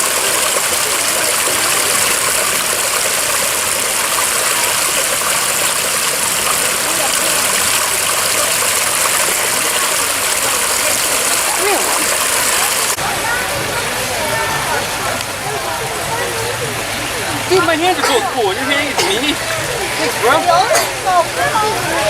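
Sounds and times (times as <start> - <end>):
faint voices: 0.0 - 22.0
falling water rushing: 0.0 - 22.0.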